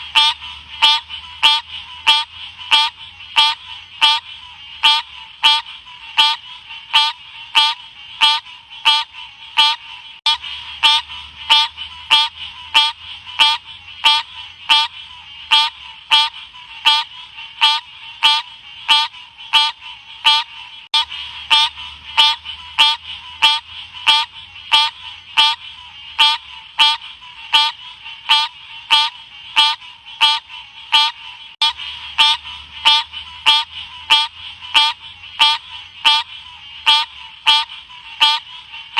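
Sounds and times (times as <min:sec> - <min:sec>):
frog chirping calls: 0:00.0 - 0:38.9.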